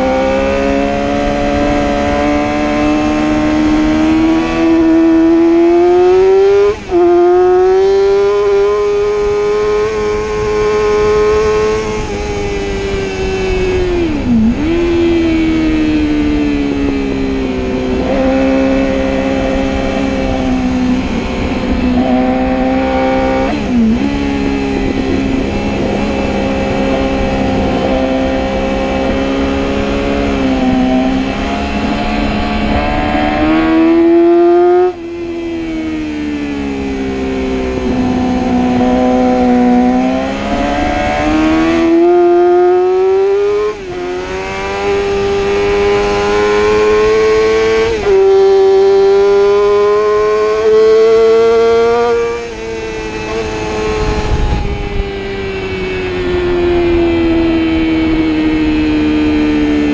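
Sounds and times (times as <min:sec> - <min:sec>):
motorcycle engine revving: 0:00.0 - 0:59.9
wind and road rush: 0:00.0 - 0:59.9.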